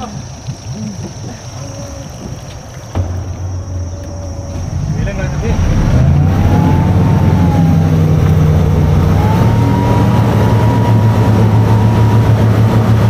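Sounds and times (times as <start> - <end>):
outboard engines running: 0.0 - 13.0.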